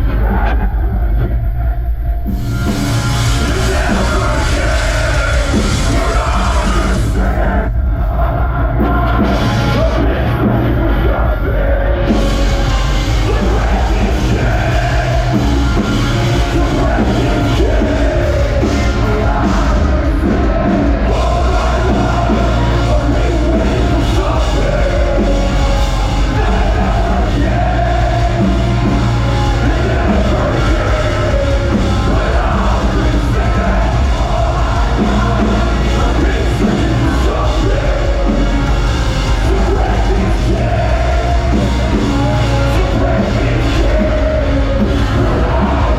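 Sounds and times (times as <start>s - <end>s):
metal band playing live: 0.0s - 45.9s
person singing and yelling: 3.2s - 45.9s.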